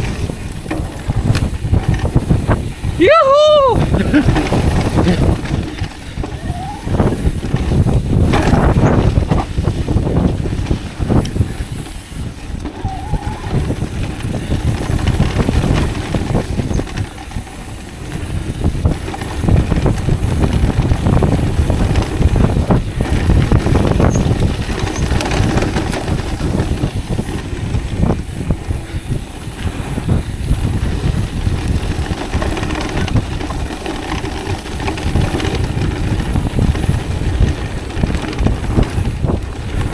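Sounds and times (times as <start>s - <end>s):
bike rattling and knocking: 0.0s - 39.9s
tyres rumbling over dirt: 0.0s - 39.9s.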